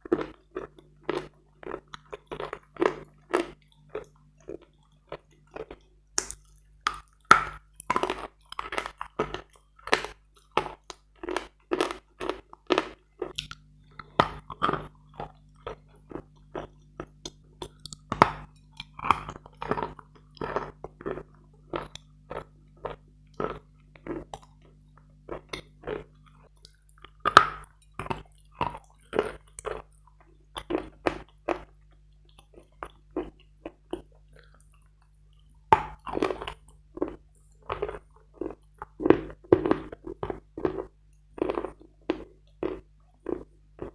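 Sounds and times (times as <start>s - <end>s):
person chewing crunchy chalk: 0.0s - 43.9s.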